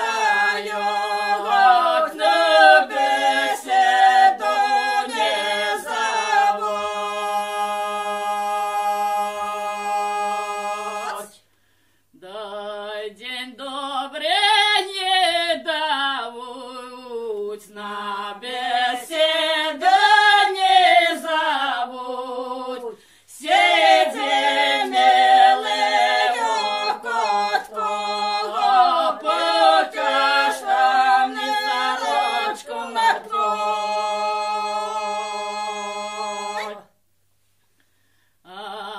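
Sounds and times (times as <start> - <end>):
group singing unaccompanied: 0.0 - 11.5, 12.2 - 37.0, 38.5 - 38.9.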